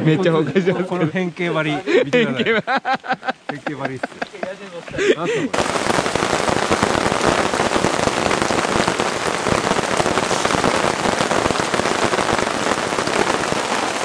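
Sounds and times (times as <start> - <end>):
rain falling on tarps: 0.0 - 14.0.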